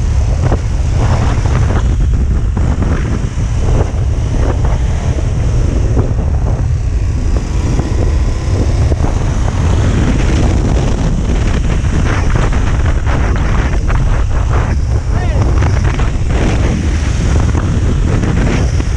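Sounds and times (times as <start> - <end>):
motorcycle engine running: 0.0 - 18.9
wind buffeting microphone: 0.0 - 18.9.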